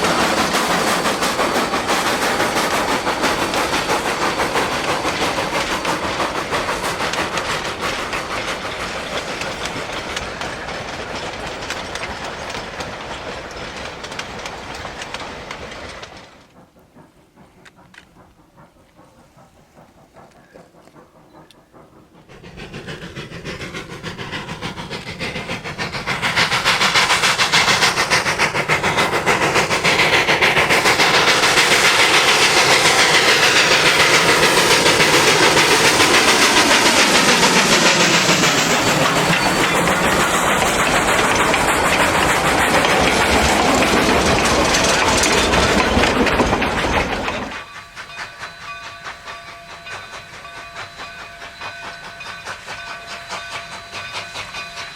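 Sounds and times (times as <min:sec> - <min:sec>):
steam locomotive exhaust and hiss: 0:00.0 - 0:54.9
train wheels clacking over rail joints: 0:00.0 - 0:54.9.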